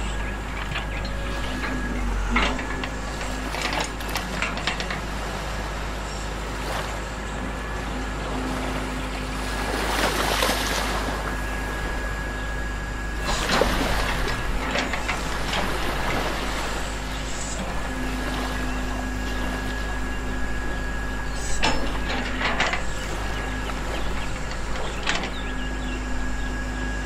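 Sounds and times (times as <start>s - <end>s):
model excavator motor whine: 0.0s - 27.0s.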